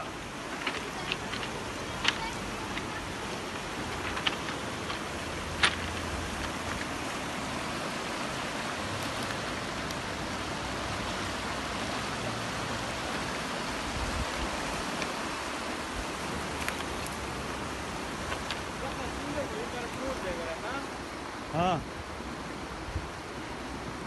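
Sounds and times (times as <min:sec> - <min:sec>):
river water rushing over cobbles: 0:00.0 - 0:24.0.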